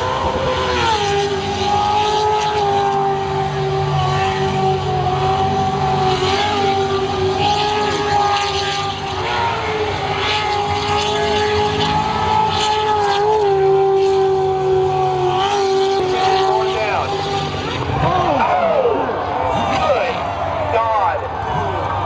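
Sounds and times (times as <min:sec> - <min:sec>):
boat engine at high revs: 0:00.0 - 0:22.0.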